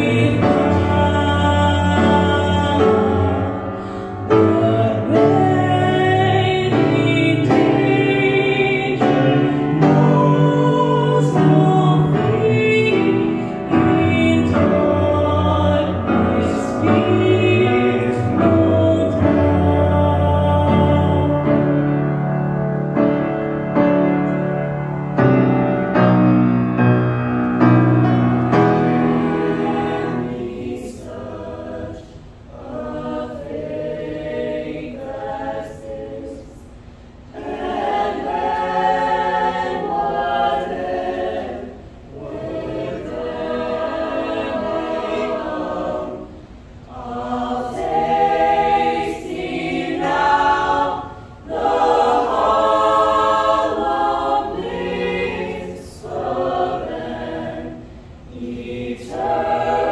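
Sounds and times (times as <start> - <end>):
choir singing a hymn: 0.0 - 59.9
grand piano accompaniment: 0.0 - 59.9.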